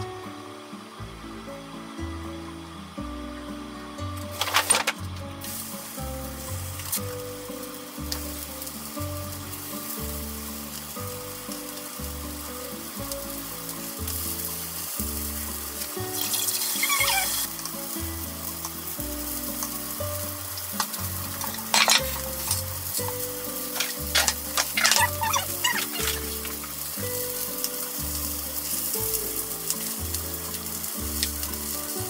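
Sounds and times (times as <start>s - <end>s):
peppers sizzling in frying pan: 0.0s - 32.0s.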